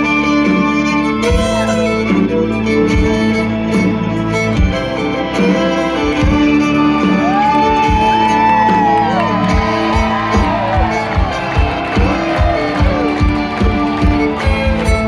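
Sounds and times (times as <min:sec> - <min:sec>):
live country band playing: 0:00.0 - 0:15.0.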